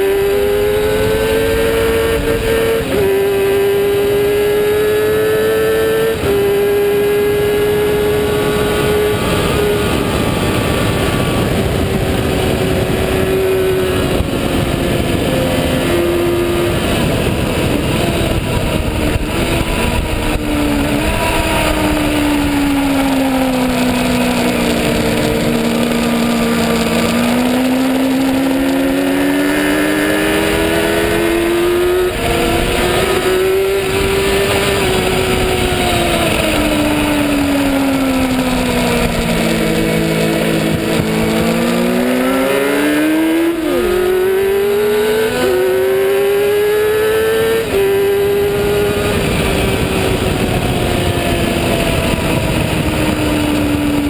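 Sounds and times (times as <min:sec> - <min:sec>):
racing motorcycle engine revving: 0:00.0 - 0:54.0
wind rush: 0:00.0 - 0:54.0.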